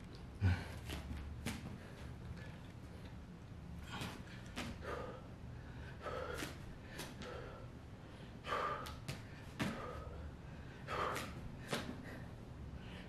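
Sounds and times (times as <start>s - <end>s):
man breathing hard: 0.3s - 2.7s, 3.8s - 13.0s.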